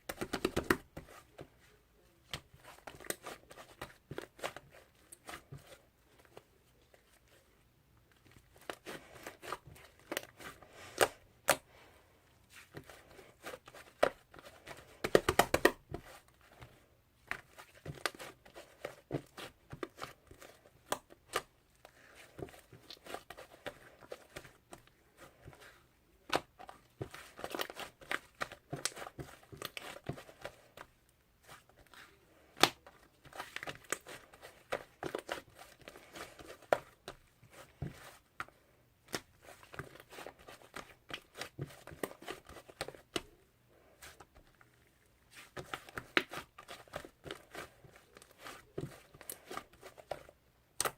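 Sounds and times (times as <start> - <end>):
hands squishing slime: 0.0 - 50.9.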